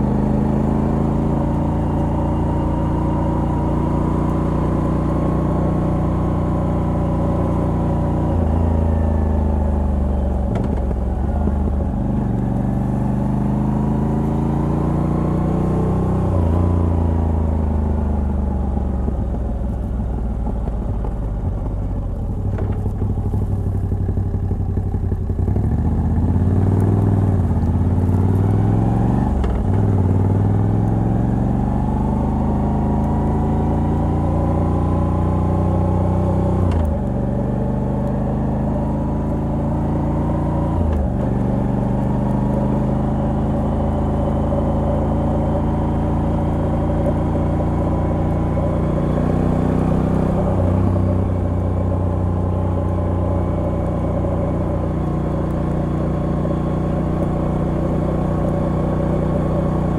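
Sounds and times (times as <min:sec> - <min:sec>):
motorcycle accelerating through gears: 0:00.0 - 0:59.9.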